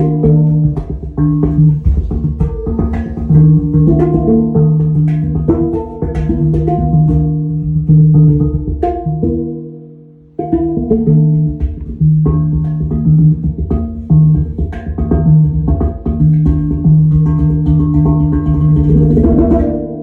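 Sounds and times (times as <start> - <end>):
instrumental music with steady beat: 0.0 - 20.0.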